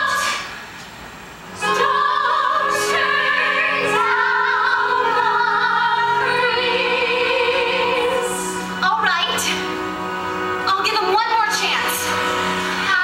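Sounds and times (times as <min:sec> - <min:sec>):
women's chorus singing sustained chord: 0:00.0 - 0:00.5, 0:01.4 - 0:13.0.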